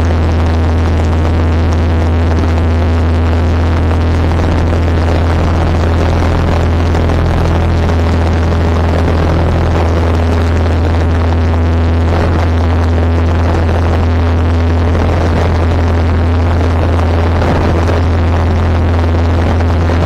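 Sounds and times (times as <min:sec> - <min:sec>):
floatplane engine and propeller droning: 0:00.0 - 0:20.0.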